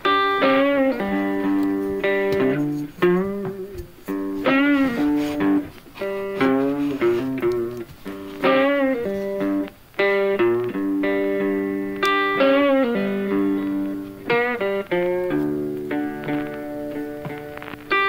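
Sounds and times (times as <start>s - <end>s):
guitar playing slow plucked melody: 0.0s - 18.0s.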